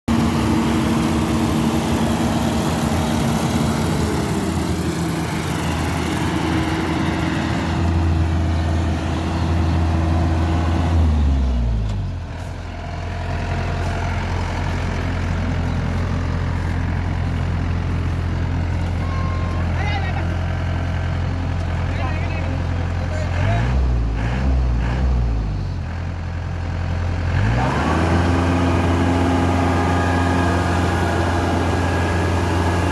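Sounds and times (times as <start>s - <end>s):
combine harvester engine running: 0.1s - 32.9s.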